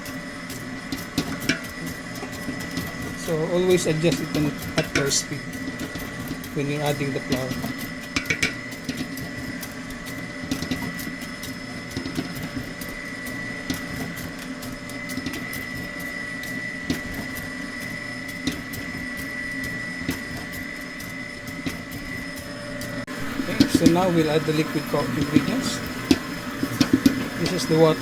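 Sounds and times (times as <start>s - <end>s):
electric mixer motor whine: 0.0s - 28.0s.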